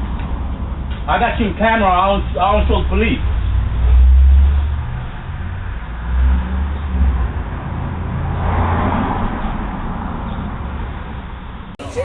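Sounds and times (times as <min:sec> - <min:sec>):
motor vehicle passing: 0:01.9 - 0:12.0.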